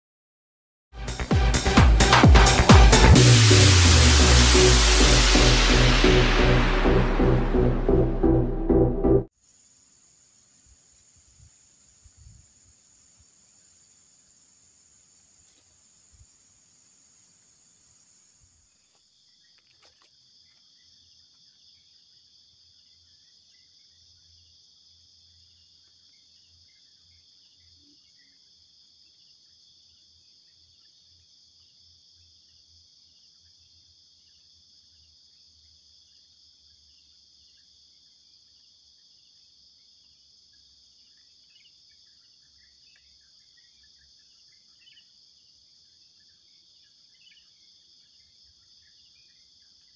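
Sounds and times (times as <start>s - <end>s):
insects droning: 9.3s - 49.9s.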